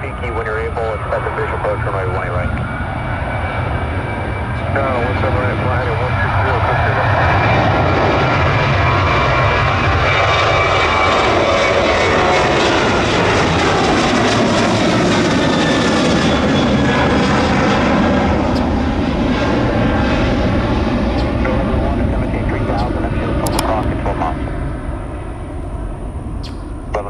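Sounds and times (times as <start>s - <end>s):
jet airliner engines roaring: 0.0s - 27.0s.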